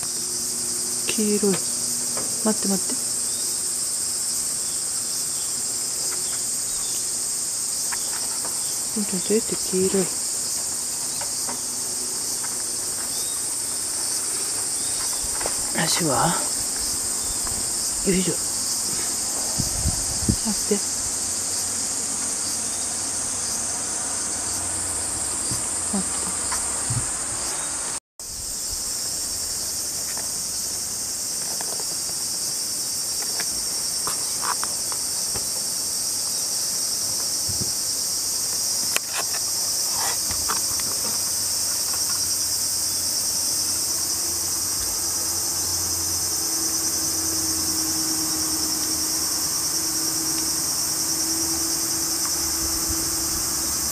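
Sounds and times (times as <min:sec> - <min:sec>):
insects shrilling: 0:00.0 - 0:53.9.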